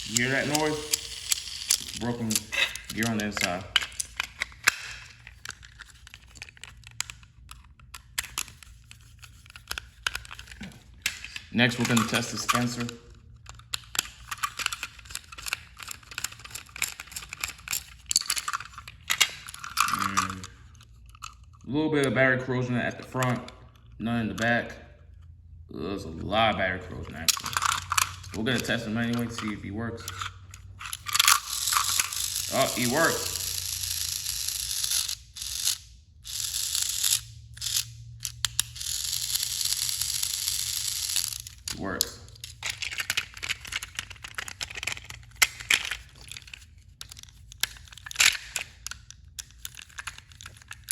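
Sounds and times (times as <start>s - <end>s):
plastic toy clicks and rattles: 0.0s - 21.6s, 26.9s - 50.9s.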